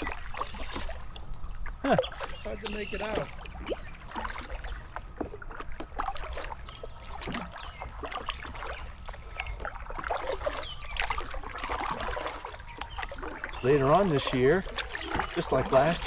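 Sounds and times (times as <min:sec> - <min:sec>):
paddle splashing water: 0:00.0 - 0:16.0
songbirds chirping: 0:00.0 - 0:16.0.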